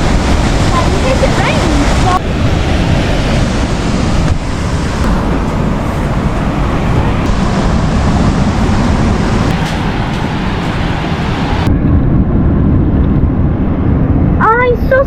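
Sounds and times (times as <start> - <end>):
ocean surf rumbling: 0.0 - 15.0
wind buffeting microphone: 0.0 - 15.0.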